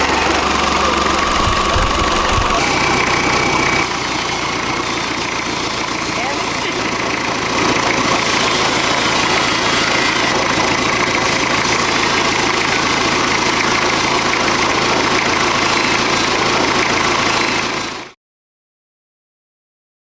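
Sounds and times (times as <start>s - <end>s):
engine idling: 0.0s - 18.2s.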